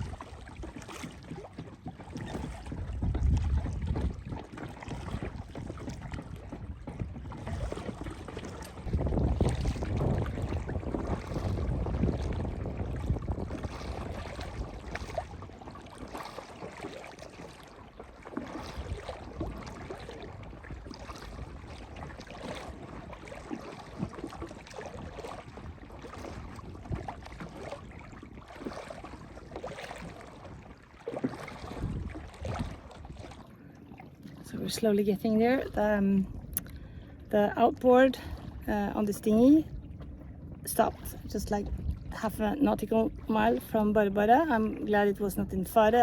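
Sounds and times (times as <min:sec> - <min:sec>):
wind buffeting microphone: 0:00.0 - 0:16.9, 0:18.4 - 0:33.6, 0:34.2 - 0:46.0
oar strokes in water: 0:00.0 - 0:46.0.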